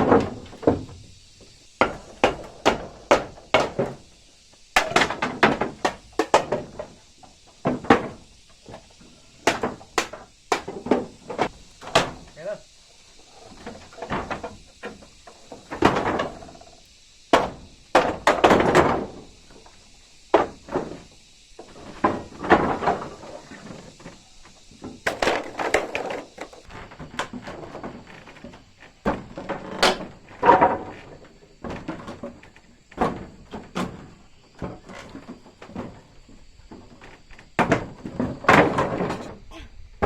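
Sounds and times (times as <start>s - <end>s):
wood knocking and thudding: 0.0s - 4.1s, 4.8s - 12.4s, 13.5s - 16.7s, 17.3s - 39.6s.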